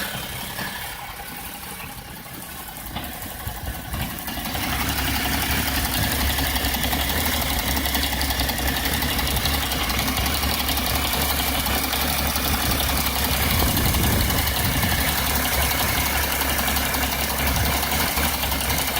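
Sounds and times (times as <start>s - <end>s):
car engine idling roughly: 0.0s - 18.9s.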